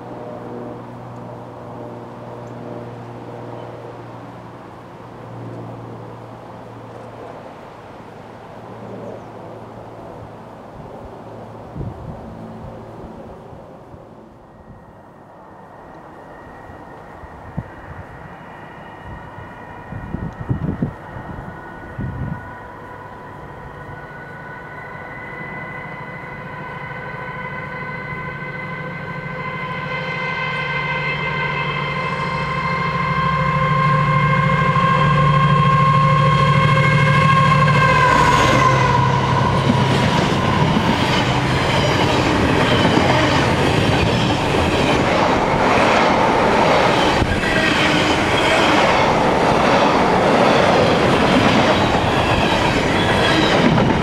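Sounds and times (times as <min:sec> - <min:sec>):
diesel locomotive engine whine: 0:00.0 - 0:54.0.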